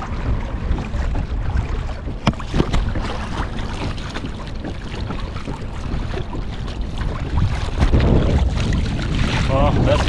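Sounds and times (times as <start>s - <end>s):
water lapping against hull: 0.0s - 10.0s
wind noise on microphone: 0.0s - 10.0s.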